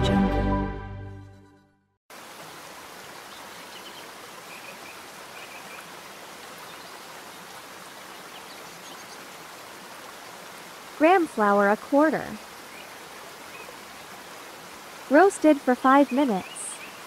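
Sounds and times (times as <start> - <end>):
flowing water rushing: 2.1 - 17.0.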